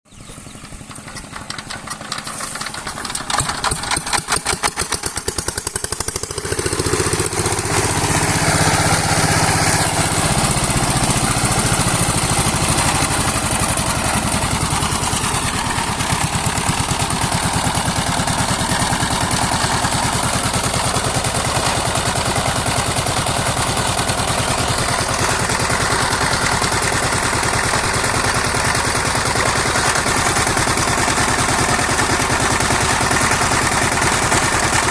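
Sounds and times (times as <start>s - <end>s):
diesel engine pulsing: 0.1s - 34.9s.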